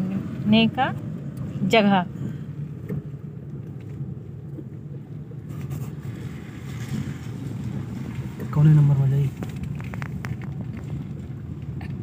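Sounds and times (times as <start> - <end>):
car engine rumble and cabin noise: 0.0 - 12.0.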